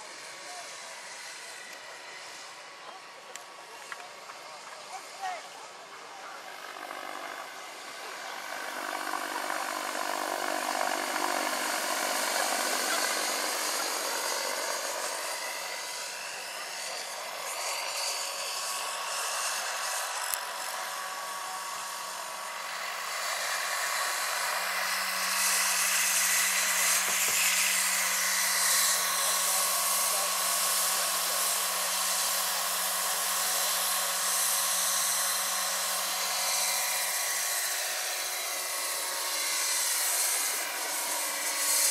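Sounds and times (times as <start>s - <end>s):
model helicopter whine: 0.0s - 41.9s.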